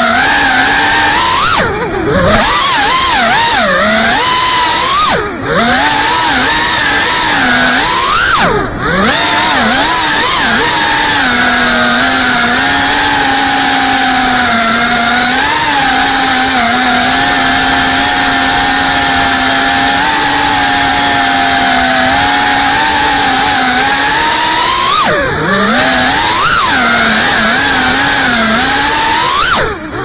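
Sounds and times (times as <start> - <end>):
drone motors buzzing: 0.0 - 30.0.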